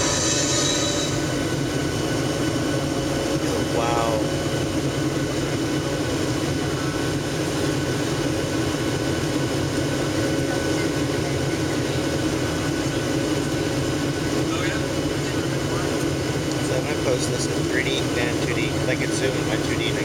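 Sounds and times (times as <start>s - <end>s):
jet engine drone: 0.0s - 20.0s.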